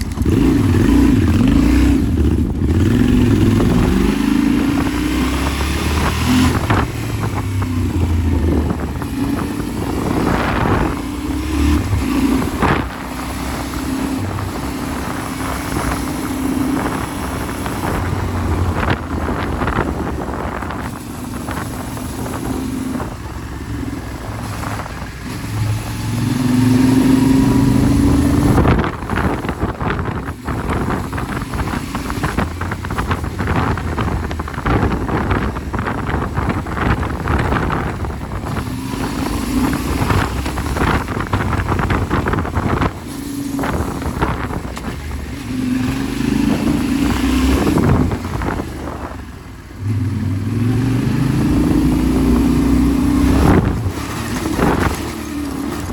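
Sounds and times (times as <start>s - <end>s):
motorcycle engine revving: 0.0s - 55.9s
wind buffeting microphone: 0.0s - 55.9s.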